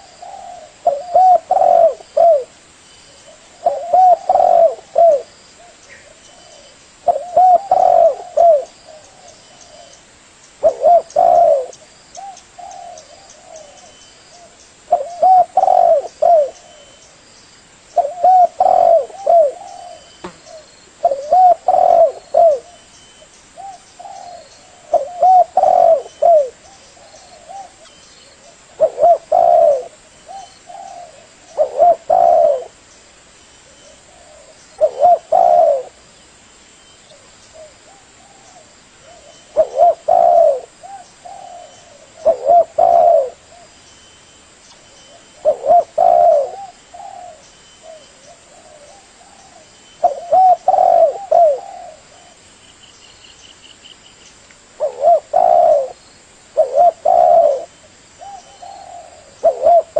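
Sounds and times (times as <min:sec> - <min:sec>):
dove cooing: 0:00.0 - 0:10.0, 0:10.6 - 0:17.1, 0:18.0 - 0:22.9, 0:23.6 - 0:32.8, 0:33.8 - 0:36.0, 0:37.1 - 0:43.8, 0:45.1 - 0:52.4, 0:54.8 - 0:56.0, 0:56.6 - 0:59.9.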